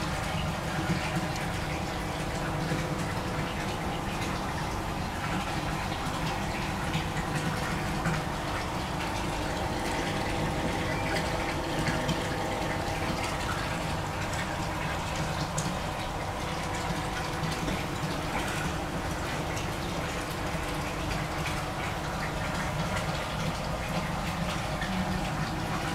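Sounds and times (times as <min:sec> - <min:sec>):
steady hum: 0:00.0 - 0:25.9
water running into tank: 0:00.0 - 0:25.9.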